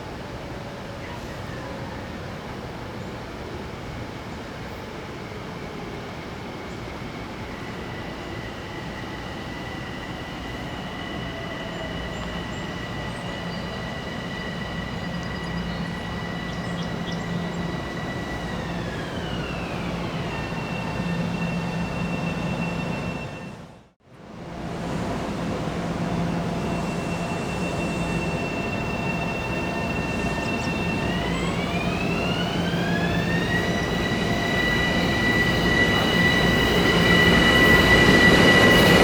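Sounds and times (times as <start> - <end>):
electric train running past: 0.0 - 39.0.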